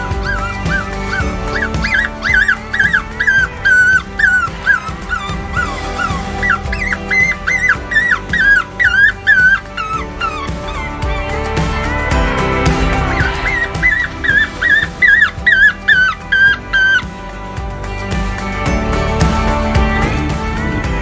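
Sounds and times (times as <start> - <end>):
high-pitched rabbit distress squeals: 0.0 - 17.0.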